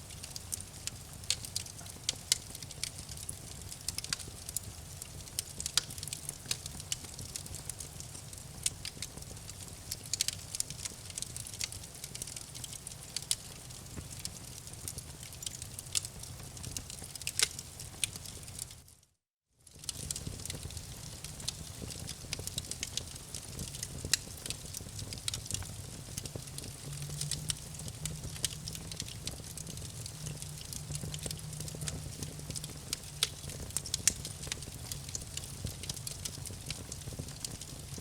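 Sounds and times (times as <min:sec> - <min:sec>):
campfire crackling: 0:00.1 - 0:18.8, 0:19.7 - 0:38.0.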